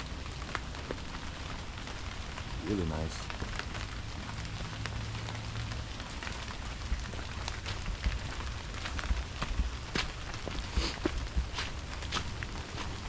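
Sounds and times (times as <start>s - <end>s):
rain drops ticking and tapping: 0.0s - 13.0s
steady rain hiss: 0.0s - 13.0s.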